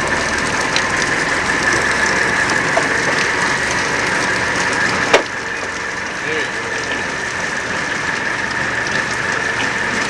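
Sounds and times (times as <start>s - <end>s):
boat machinery running with whine: 0.0s - 10.0s.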